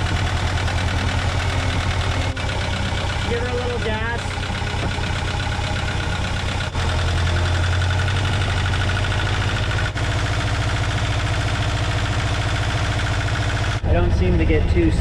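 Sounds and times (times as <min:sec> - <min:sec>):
inboard marine engine knocking: 0:00.0 - 0:13.8.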